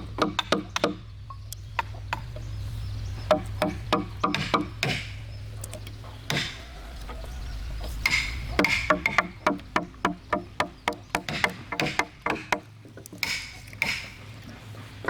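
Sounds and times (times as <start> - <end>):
tools knocking on wood: 0.0 - 2.5, 3.2 - 6.6, 8.0 - 14.6
steady low hum: 0.0 - 15.0.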